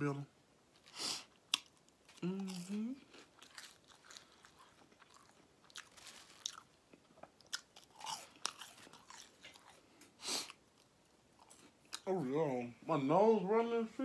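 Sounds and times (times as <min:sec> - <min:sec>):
chewing crunchy fries: 0:00.8 - 0:12.1.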